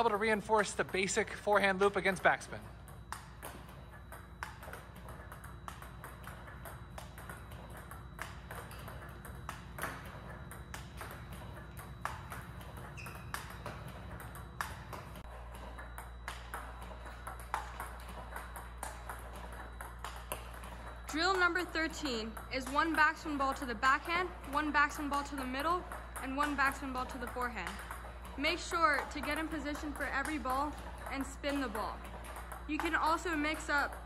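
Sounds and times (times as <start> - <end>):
low steady hum: 0.0 - 34.0
table tennis ball clicks on bat and table: 0.6 - 34.0.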